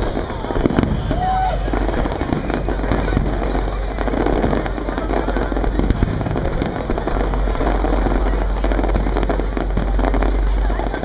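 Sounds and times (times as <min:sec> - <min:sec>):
fireworks booming and crackling: 0:00.0 - 0:11.0.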